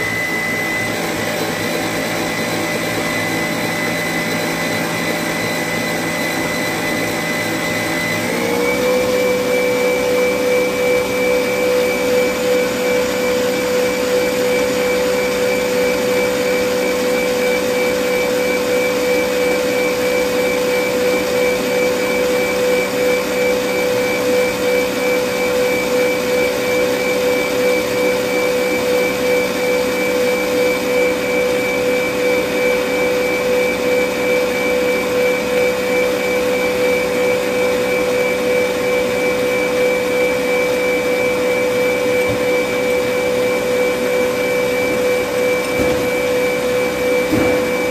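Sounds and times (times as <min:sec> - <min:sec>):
stand mixer motor whining: 0:00.0 - 0:47.9.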